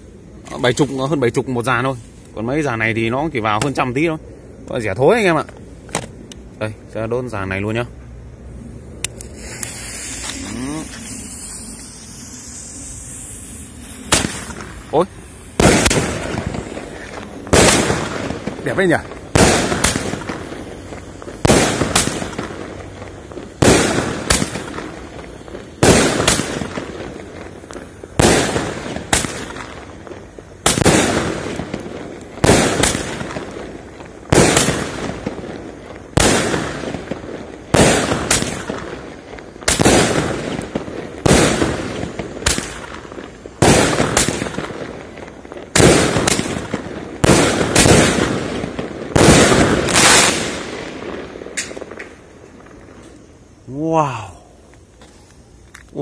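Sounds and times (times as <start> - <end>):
fireworks bangs: 0.0 - 6.4, 7.2 - 56.0.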